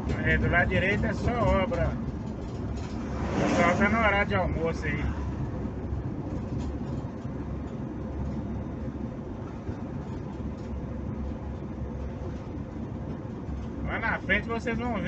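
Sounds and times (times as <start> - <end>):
car driving on highway: 0.0 - 15.0.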